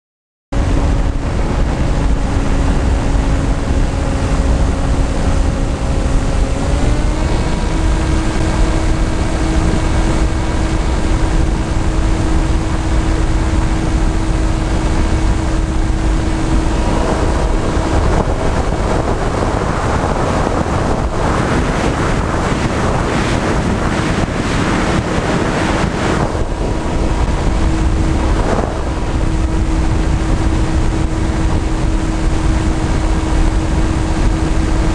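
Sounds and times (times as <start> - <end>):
wind buffeting microphone: 0.5 - 34.9
drone motors humming: 0.6 - 34.9.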